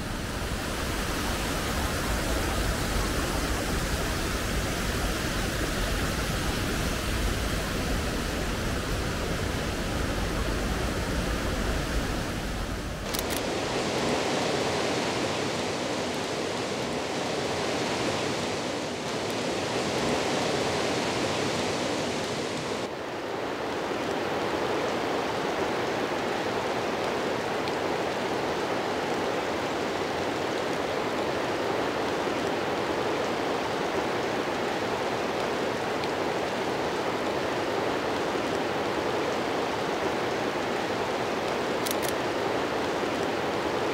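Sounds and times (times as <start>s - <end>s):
rushing white water: 0.0s - 43.9s.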